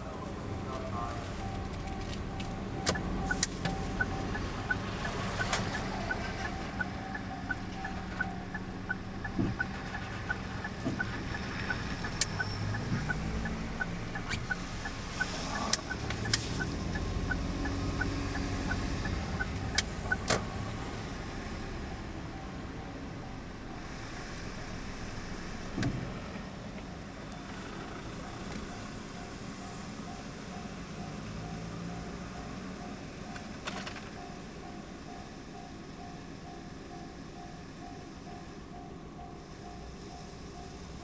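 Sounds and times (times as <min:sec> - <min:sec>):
passing trains rumbling: 0:00.0 - 0:41.0.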